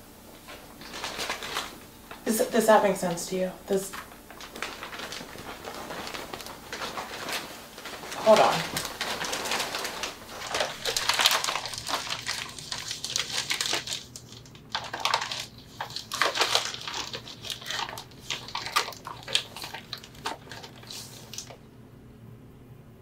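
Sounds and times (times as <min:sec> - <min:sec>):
plastic bag crinkling: 0:00.4 - 0:21.7.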